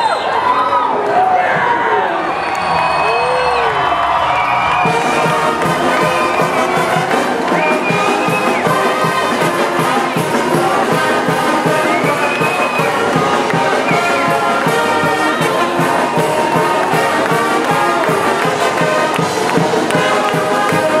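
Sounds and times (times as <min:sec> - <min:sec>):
brass pep band playing: 0:03.8 - 0:21.0.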